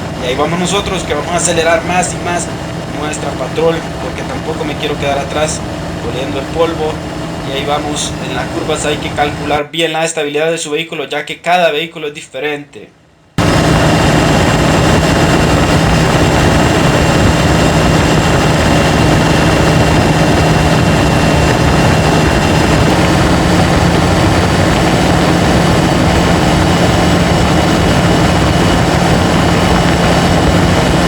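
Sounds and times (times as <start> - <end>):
diesel engine accelerating: 0.0 - 9.6, 13.4 - 31.0.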